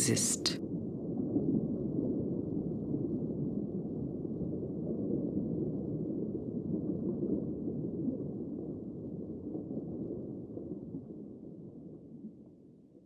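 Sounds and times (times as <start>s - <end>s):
muffled underwater rumble: 0.7s - 12.5s.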